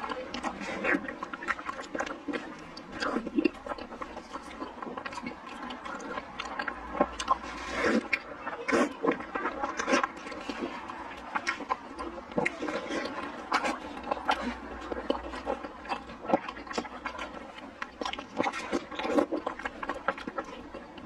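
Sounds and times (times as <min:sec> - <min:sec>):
mouth smacks and squelches: 0:00.0 - 0:21.0
wet chewing and sucking: 0:00.0 - 0:21.0.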